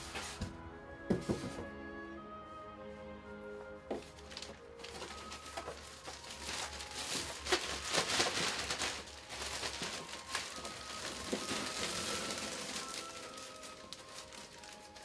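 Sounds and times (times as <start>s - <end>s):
plastic bag rustling and crinkling: 0.0s - 1.6s, 3.9s - 15.0s.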